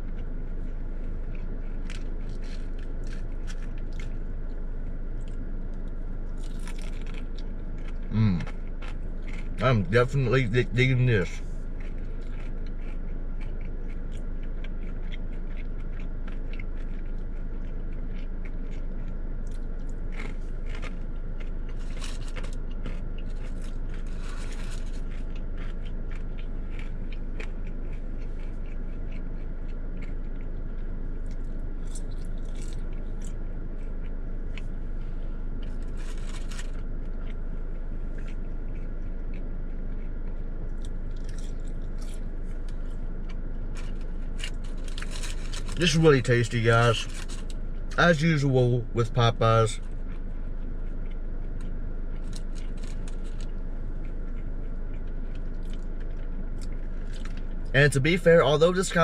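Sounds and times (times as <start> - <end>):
chewing crunchy food: 0.0 - 59.0
low hum: 0.0 - 59.0.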